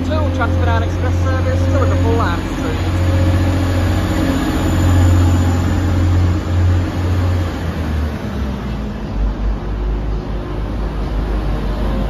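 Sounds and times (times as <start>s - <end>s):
train engine droning: 0.0s - 12.0s
train running-gear rumble: 0.0s - 12.0s.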